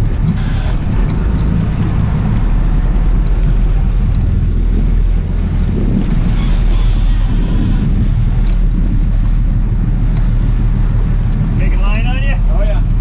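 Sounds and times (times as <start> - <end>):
boat engines rumbling: 0.0 - 13.0
wind buffeting microphone: 0.0 - 13.0.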